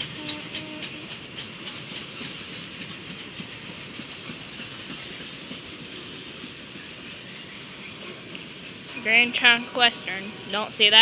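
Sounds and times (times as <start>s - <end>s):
freight train rumbling past: 0.0s - 11.0s
train wheels clacking over rail joints: 0.0s - 11.0s.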